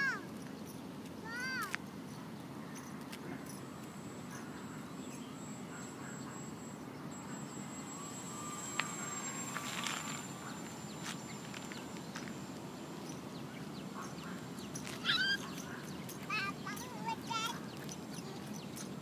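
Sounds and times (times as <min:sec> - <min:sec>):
model airplane motor droning: 0:00.0 - 0:19.0
outdoor background noise: 0:00.0 - 0:19.0.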